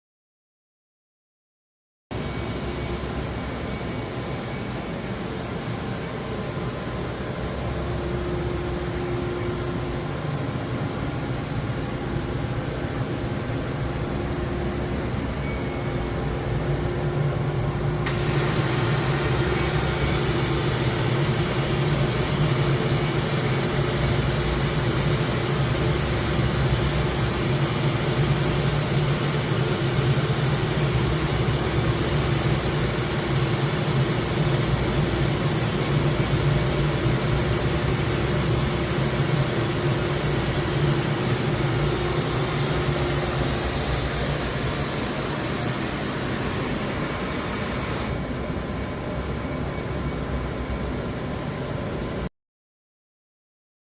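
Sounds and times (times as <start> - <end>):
loud steady hiss: 2.2 - 48.6
machine humming with low tone: 2.2 - 52.2.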